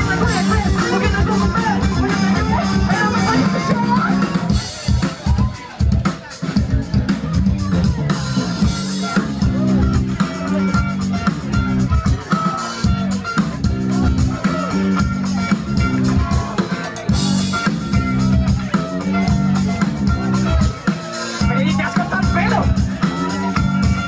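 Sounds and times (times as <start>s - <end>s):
funk band playing: 0.0s - 24.0s.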